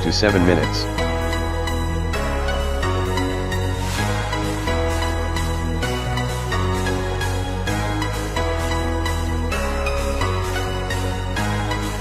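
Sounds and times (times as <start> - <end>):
electronic music with bass line: 0.0 - 12.0.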